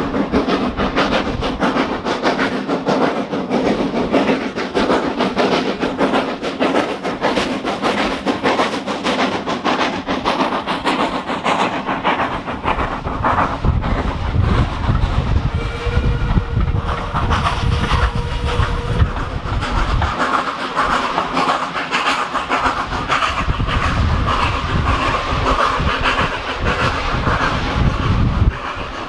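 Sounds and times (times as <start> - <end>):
deep train rumble: 0.0 - 29.0
train wheels clattering: 0.0 - 29.0.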